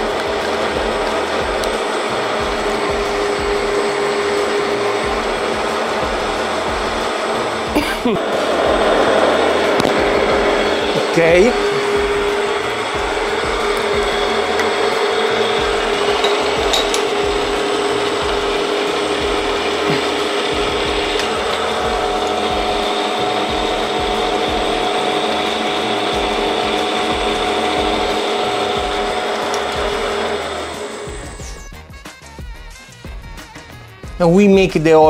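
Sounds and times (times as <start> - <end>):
milling machine cutting: 0.0 - 31.6.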